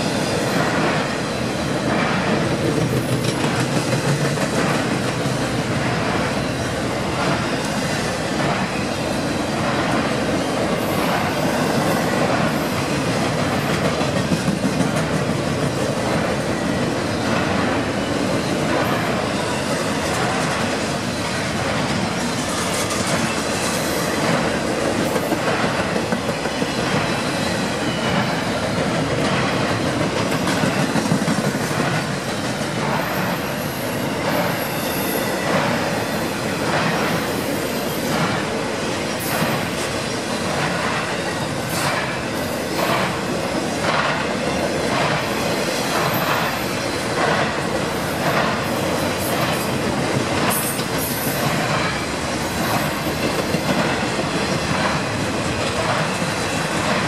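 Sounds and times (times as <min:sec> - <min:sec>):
train wheels rumbling on rail: 0:00.0 - 0:57.0
wheels clacking over rail joints: 0:01.8 - 0:57.0.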